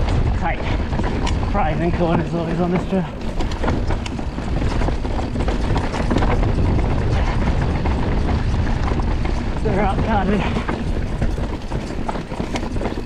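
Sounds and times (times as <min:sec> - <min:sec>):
bike tyres rumbling on dirt: 0:00.0 - 0:13.0
stones and bike rattling: 0:00.0 - 0:13.0
wind buffeting microphone: 0:00.0 - 0:13.0.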